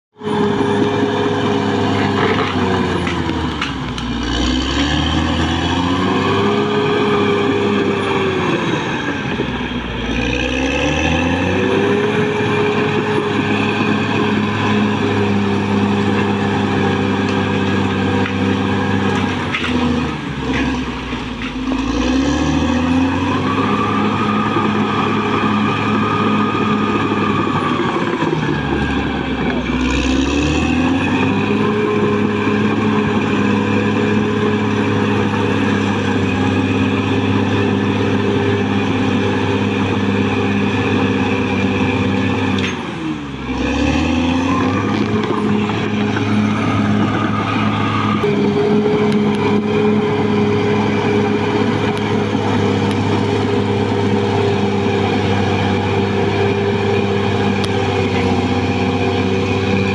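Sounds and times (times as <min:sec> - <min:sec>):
bulldozer diesel engine: 0:00.1 - 0:59.9.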